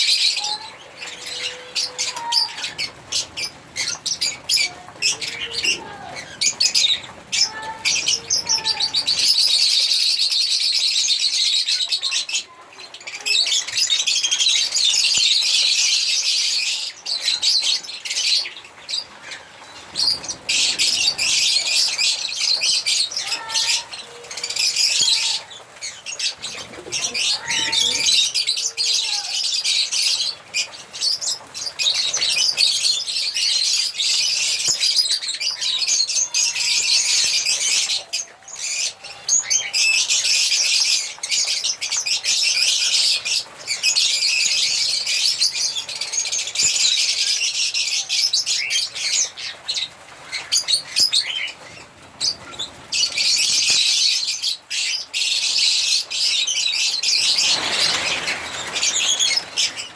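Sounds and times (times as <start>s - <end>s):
lovebirds chirping and chattering: 0.0s - 59.9s.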